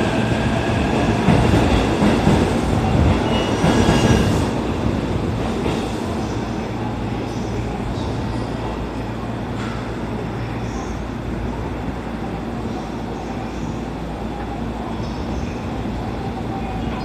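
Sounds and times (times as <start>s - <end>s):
station background noise: 0.0s - 17.0s.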